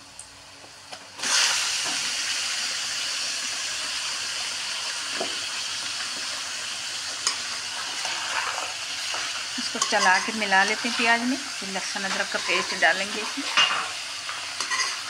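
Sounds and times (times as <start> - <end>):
meat sizzling in hot oil: 1.1 - 15.0.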